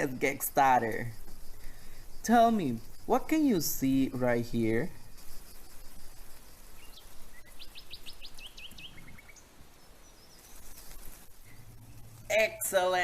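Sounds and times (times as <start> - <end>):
small bird chirping: 0.0 - 12.7
faint background noise: 0.0 - 13.0.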